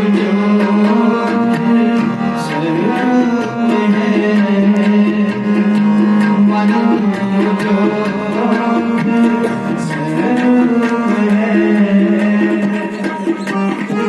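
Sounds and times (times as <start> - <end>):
sustained melody instrument: 0.0 - 14.0
tabla strokes: 0.0 - 14.0.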